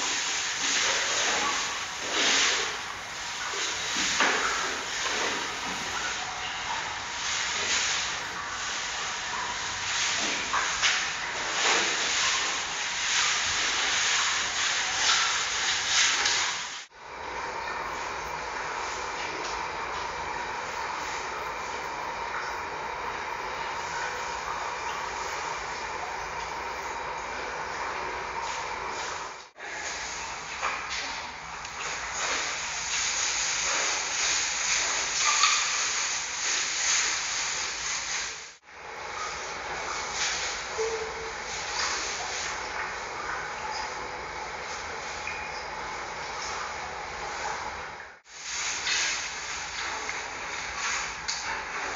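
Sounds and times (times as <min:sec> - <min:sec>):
outdoor hiss: 0:00.0 - 0:51.9.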